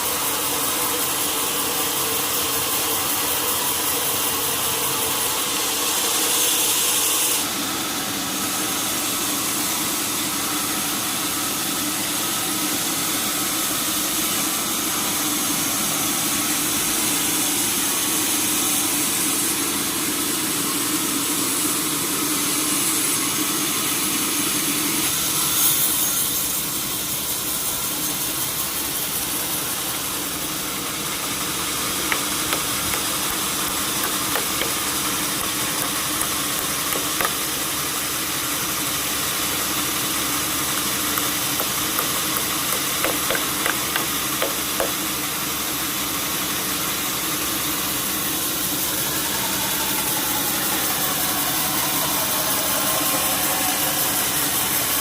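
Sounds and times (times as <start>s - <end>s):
sawmill machinery whirring: 0.0s - 55.0s.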